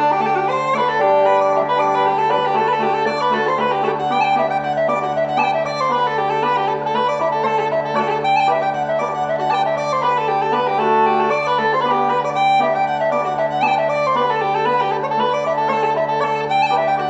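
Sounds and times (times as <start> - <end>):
uilleann pipes melody: 0.0 - 17.0.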